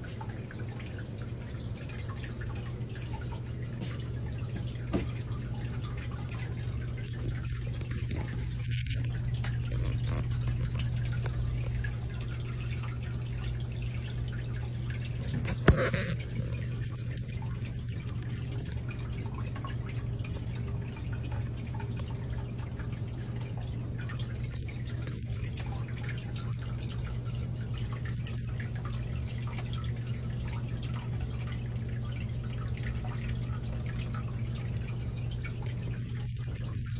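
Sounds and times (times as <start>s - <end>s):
steady low hum: 0.0s - 36.9s
water dripping and trickling: 0.0s - 36.9s.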